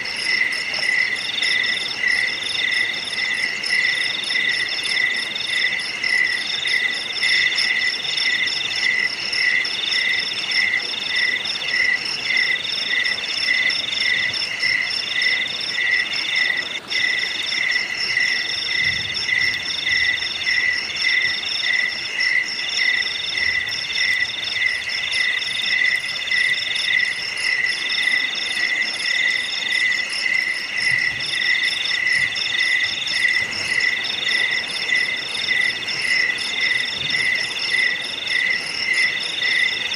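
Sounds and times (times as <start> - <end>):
insect trills: 0.0 - 39.9
insects chirping: 0.0 - 39.9.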